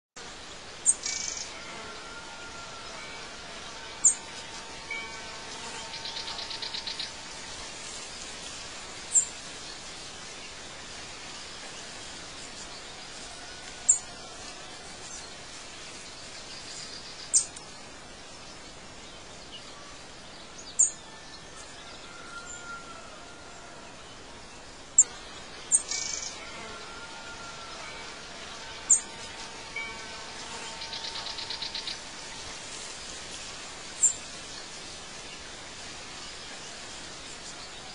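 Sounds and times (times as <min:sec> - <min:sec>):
steady hiss: 0:00.2 - 0:37.9.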